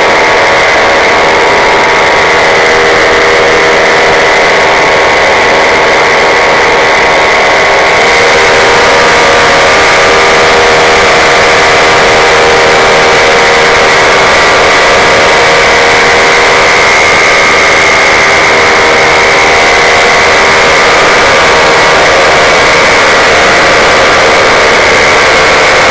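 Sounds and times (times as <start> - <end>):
paramotor engine and propeller: 0.0 - 25.9.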